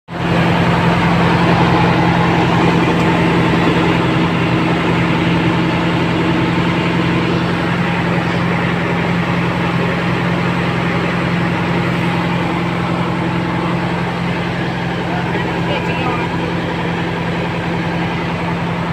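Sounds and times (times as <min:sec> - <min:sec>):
diesel truck engine idling: 0:00.1 - 0:18.9.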